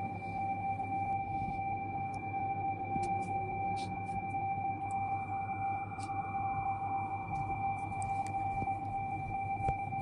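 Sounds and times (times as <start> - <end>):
high-pitched two-tone hum: 0.0 - 10.0
low throbbing hum: 0.0 - 10.0.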